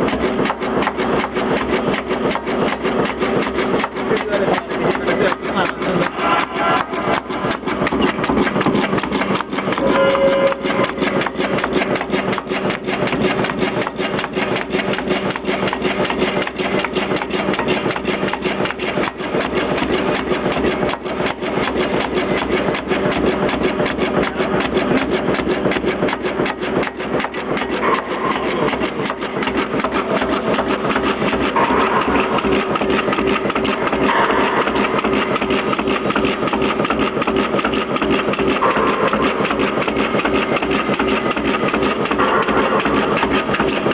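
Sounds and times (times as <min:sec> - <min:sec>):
cutting machine clatter: 0:00.0 - 0:43.9
motor hum: 0:00.0 - 0:43.9.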